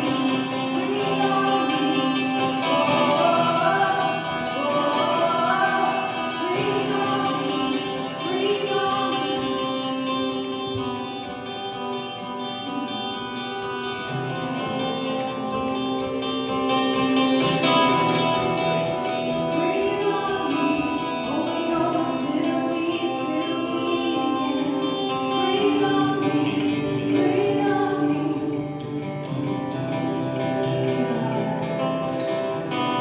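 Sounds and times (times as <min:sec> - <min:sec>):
people singing: 0:00.0 - 0:11.8, 0:12.4 - 0:33.0
guitar chords: 0:00.0 - 0:33.0.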